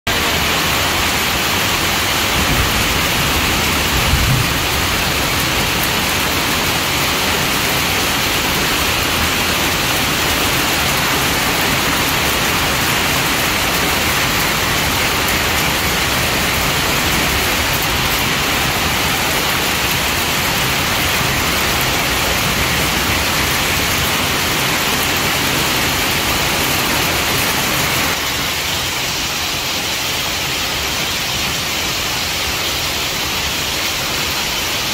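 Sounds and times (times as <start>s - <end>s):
heavy rain and hail hiss: 0.1s - 34.9s.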